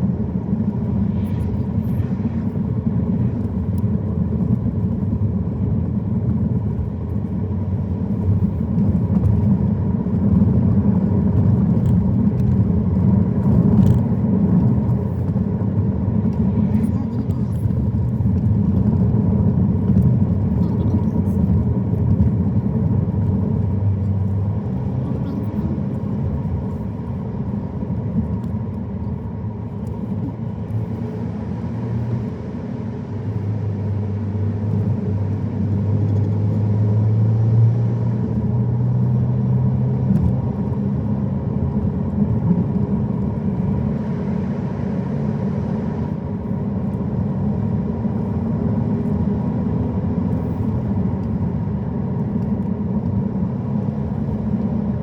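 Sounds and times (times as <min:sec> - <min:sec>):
car engine and tyres droning: 0:00.0 - 0:55.0.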